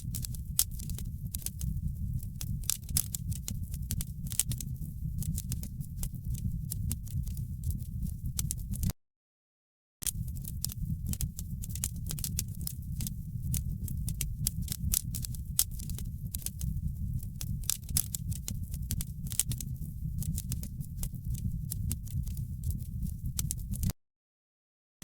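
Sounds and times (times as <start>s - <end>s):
wood fire crackling: 0.0s - 8.9s, 10.0s - 23.9s.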